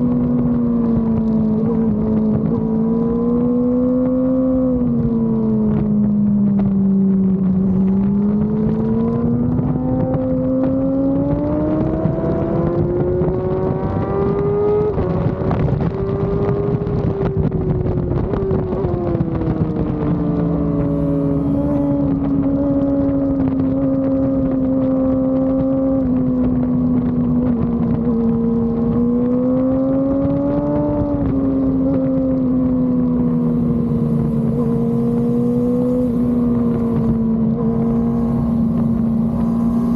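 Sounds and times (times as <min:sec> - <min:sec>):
motorcycle engine at racing speed: 0:00.0 - 0:39.9
wind buffeting microphone: 0:00.0 - 0:39.9.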